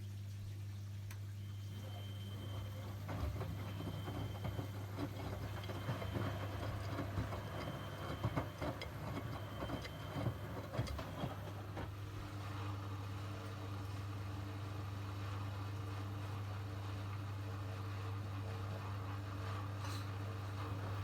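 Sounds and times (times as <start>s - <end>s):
washing machine humming: 0.2s - 21.0s.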